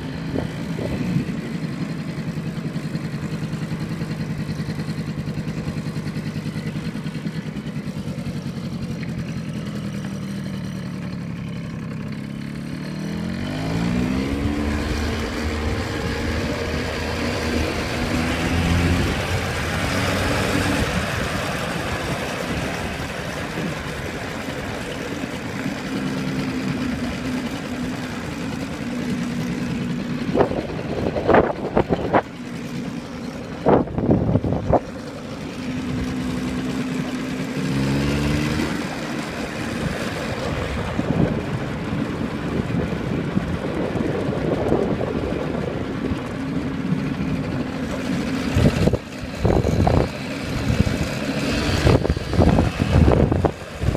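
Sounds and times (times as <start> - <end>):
motor scooter engine running: 0.0 - 53.9.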